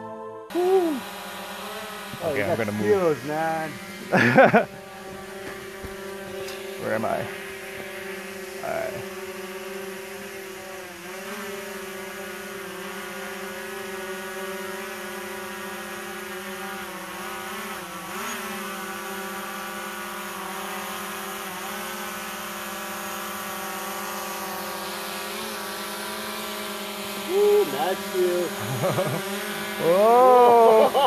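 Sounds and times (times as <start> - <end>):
drone propellers buzzing: 0.0 - 31.0.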